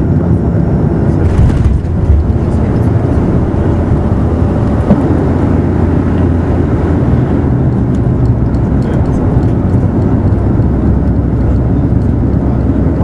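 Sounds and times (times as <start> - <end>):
aircraft engine and tyres rumbling: 0.0 - 13.0.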